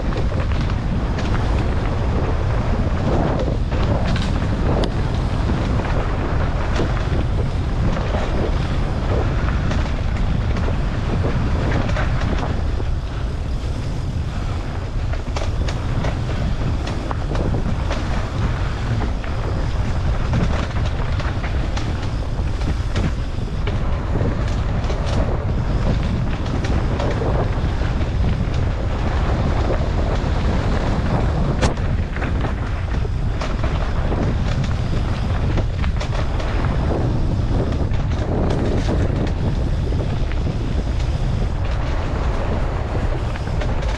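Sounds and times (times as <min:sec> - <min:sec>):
sharp clicks and rattles: 0:00.0 - 0:43.9
wind buffeting microphone: 0:00.0 - 0:43.9.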